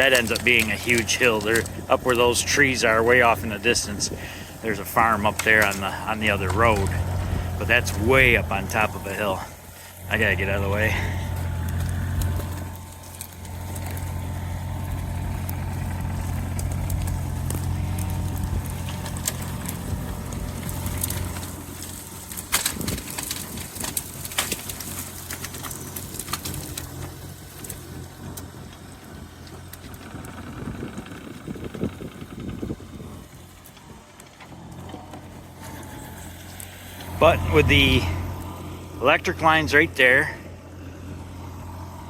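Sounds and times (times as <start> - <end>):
excavator diesel engine running: 0.0 - 42.0
wood cracking and snapping: 0.0 - 42.0.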